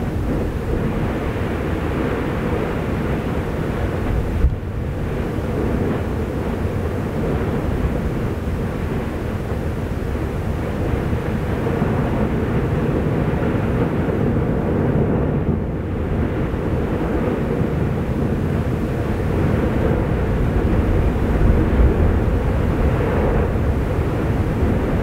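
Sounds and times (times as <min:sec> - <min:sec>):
volcanic eruption roar: 0:00.0 - 0:25.0.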